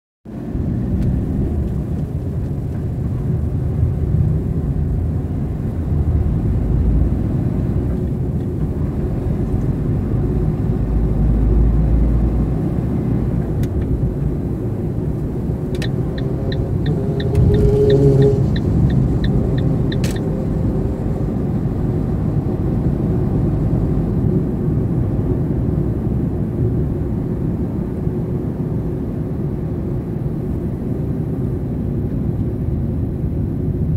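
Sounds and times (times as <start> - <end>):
road traffic rumble: 0.3 - 33.9.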